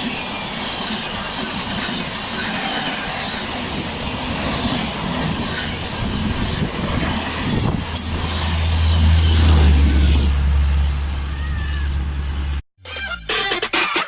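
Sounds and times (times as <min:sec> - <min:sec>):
train rushing past: 0:00.0 - 0:12.6
wheel and rail noise: 0:00.0 - 0:12.6.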